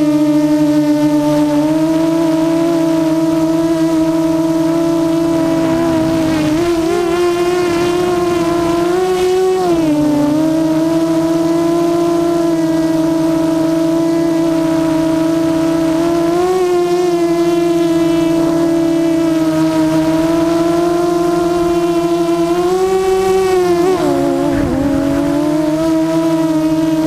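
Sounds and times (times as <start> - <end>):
drone motors whining: 2.7 - 12.4, 14.4 - 27.0.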